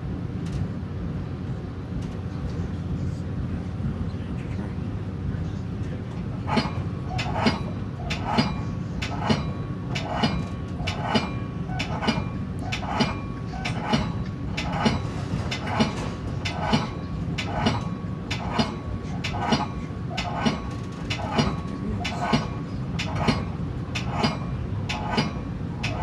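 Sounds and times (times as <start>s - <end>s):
train low rumble: 0.0s - 26.0s
train wheels clicking over rail joints: 5.1s - 26.0s.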